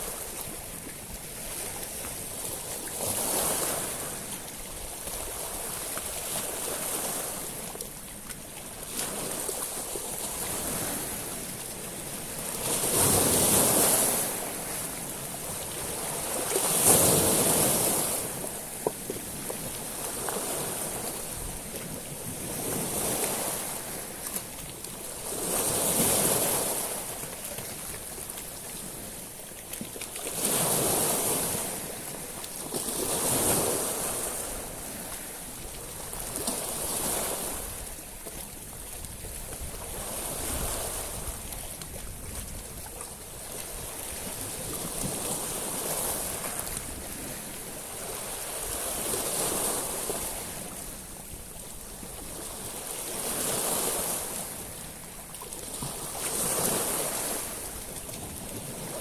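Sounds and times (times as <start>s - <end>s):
waves washing over shingle: 0.0s - 59.0s.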